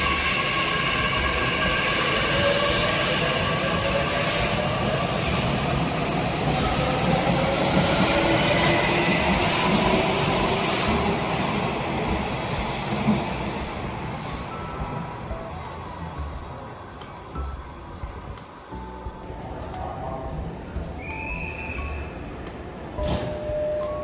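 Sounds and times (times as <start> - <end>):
train traction motors whining: 0.0 - 19.2
wheels rumbling on rail: 0.0 - 19.3.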